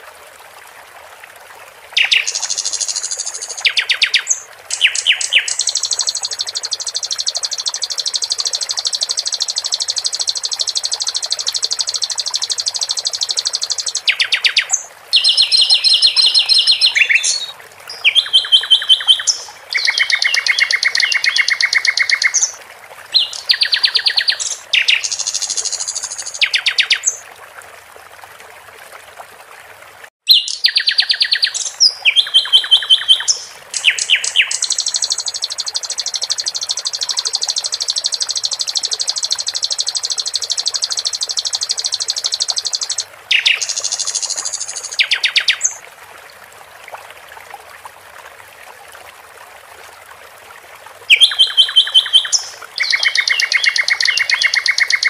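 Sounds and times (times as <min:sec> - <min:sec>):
water trickling: 0:00.0 - 0:55.0
songbird trilling: 0:02.0 - 0:27.2, 0:30.3 - 0:45.8, 0:51.1 - 0:55.0.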